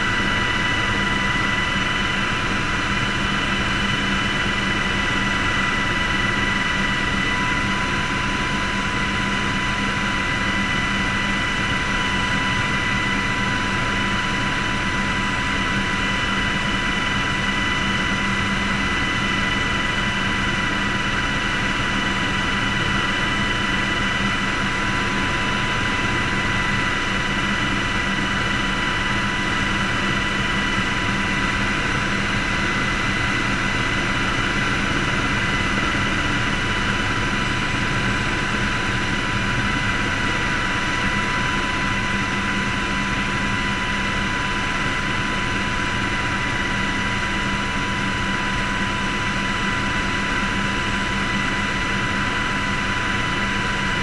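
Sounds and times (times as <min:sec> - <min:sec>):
helicopter rumble and whine: 0:00.0 - 0:54.0.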